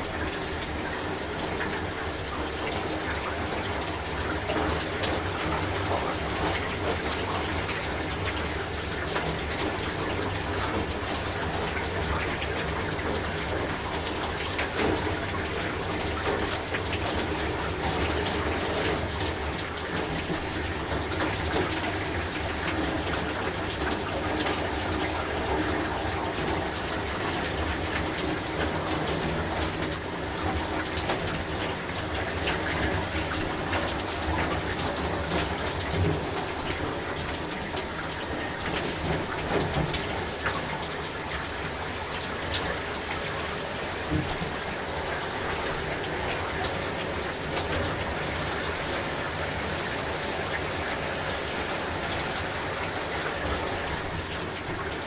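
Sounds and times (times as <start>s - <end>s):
small splashes and knocks: 0.0s - 55.0s.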